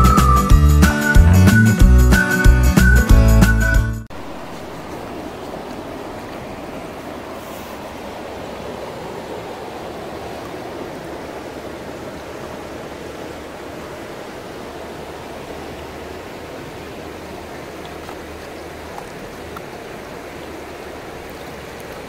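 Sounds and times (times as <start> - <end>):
river current rushing: 4.1 - 22.0.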